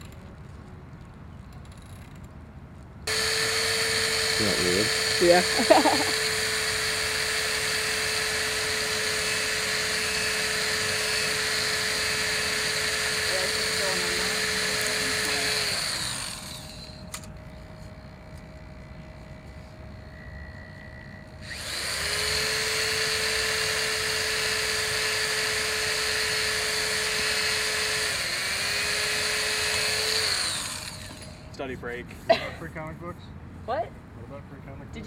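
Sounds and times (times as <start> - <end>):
power drill motor whine: 3.1 - 31.6.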